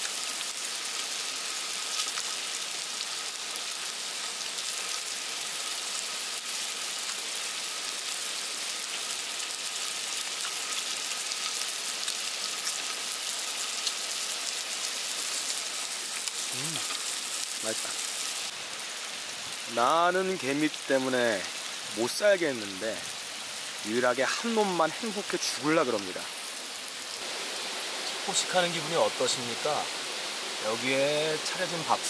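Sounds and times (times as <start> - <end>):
chicken sizzling on grill: 0.0 - 32.0.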